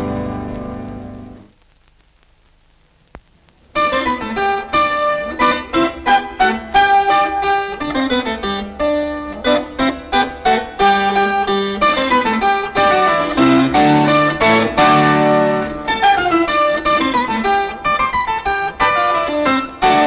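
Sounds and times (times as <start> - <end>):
plucked string instrument music: 0.0 - 1.4, 3.8 - 20.0.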